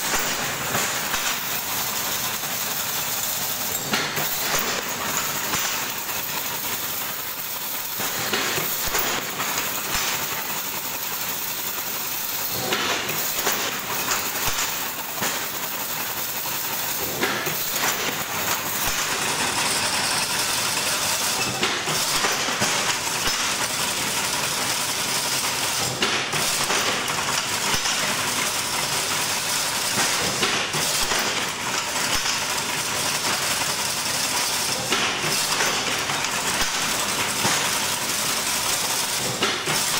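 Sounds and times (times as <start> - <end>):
fence weaving machine clatter: 0.0 - 39.9.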